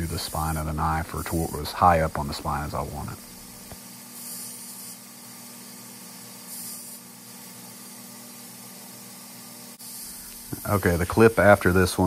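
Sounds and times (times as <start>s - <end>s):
blade hissing against belt: 0.0s - 7.9s, 9.7s - 12.0s
belt grinder humming: 0.0s - 12.0s.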